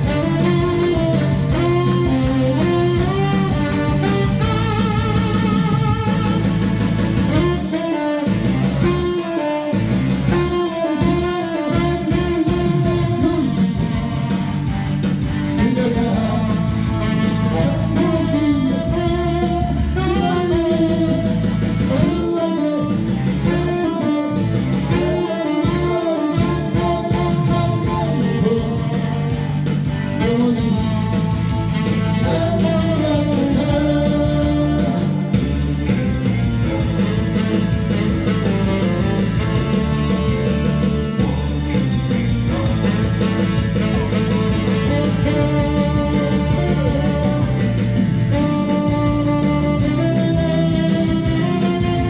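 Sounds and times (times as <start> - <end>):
guitar accompaniment: 0.0 - 52.0
saxophone melody: 0.0 - 52.0.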